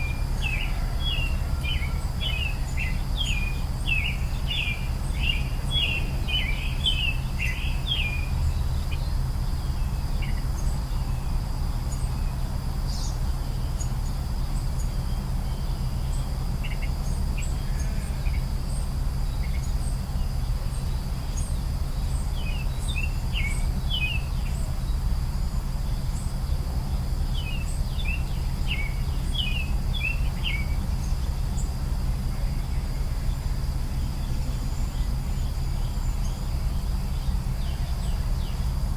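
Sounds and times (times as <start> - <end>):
high insect drone: 0.0 - 38.9
low background rumble: 0.0 - 38.9
songbirds chirping: 0.0 - 38.9.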